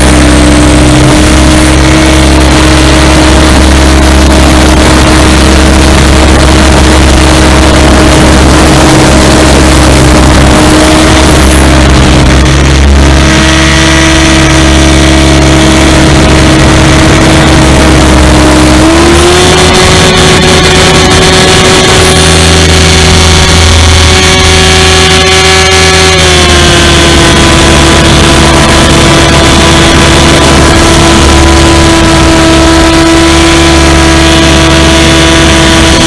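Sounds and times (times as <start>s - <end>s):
helicopter motor and rotor whine: 0.0s - 36.0s
wind and vibration noise: 0.0s - 36.0s.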